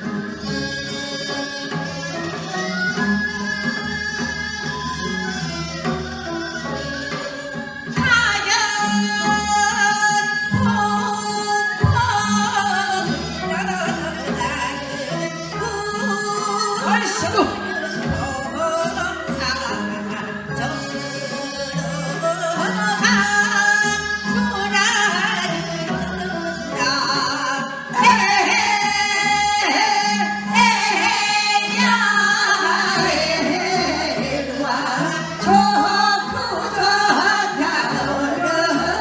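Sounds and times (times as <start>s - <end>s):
instrumental accompaniment: 0.0s - 39.0s
women singing folk song: 0.0s - 39.0s.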